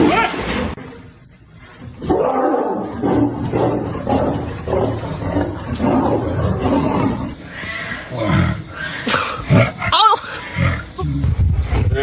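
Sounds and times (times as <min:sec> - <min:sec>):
big cats growling and snarling: 0:01.8 - 0:12.0.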